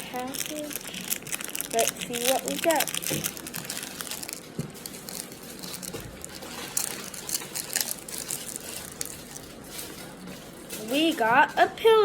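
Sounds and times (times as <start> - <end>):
plastic package crinkling: 0.0 - 10.1.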